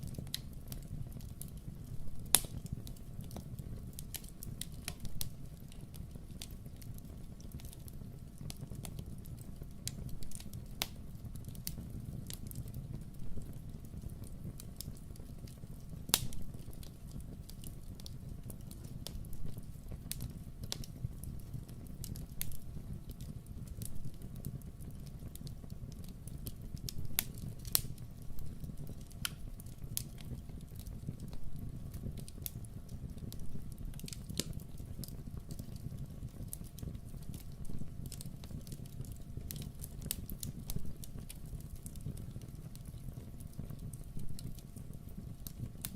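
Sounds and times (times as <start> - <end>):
fire crackling and popping: 0.0 - 45.9
low fire rumble: 0.0 - 45.9.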